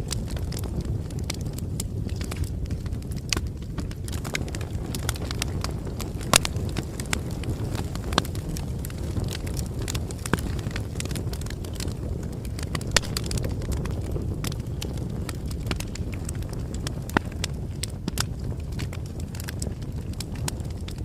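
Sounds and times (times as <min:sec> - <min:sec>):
bonfire crackling: 0:00.0 - 0:21.0
wood popping and snapping: 0:00.0 - 0:21.0.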